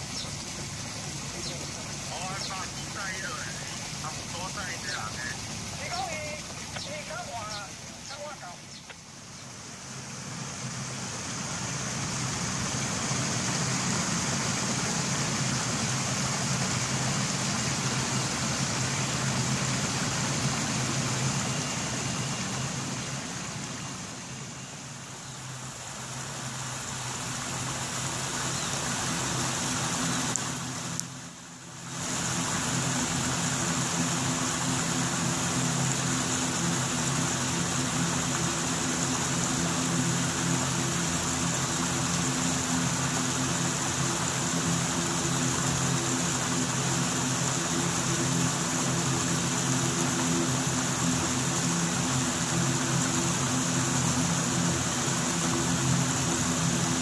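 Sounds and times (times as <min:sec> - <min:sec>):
jet engine hiss and whine: 0:00.0 - 0:57.0
low engine hum: 0:00.0 - 0:57.0.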